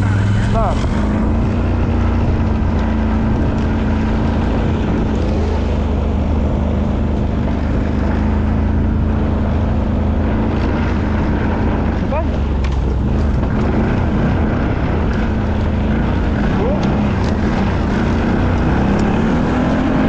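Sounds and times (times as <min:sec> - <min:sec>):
quad bike engine running: 0:00.0 - 0:20.0.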